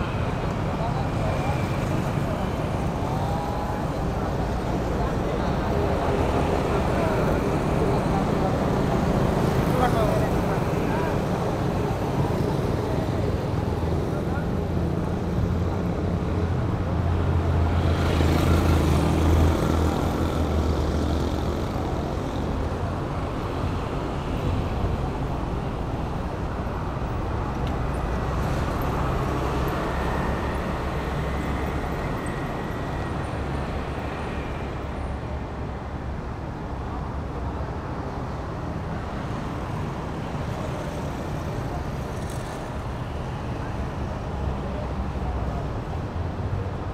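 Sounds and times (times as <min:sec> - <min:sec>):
traffic noise: 0:00.0 - 0:46.9.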